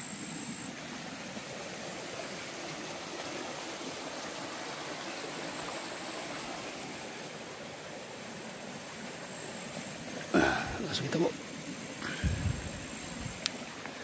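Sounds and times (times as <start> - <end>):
stream flowing over rocks: 0.0 - 14.0.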